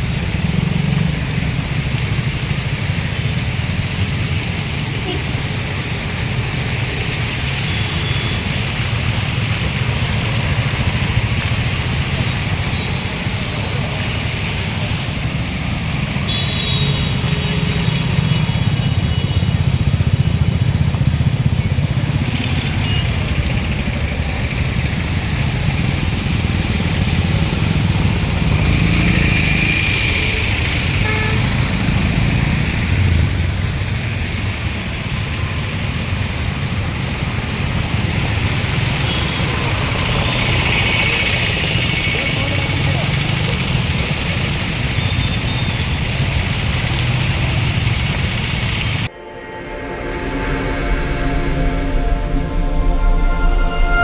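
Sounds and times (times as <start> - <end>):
motorcycles and cars passing: 0.0 - 54.0
traffic hiss: 0.0 - 54.0.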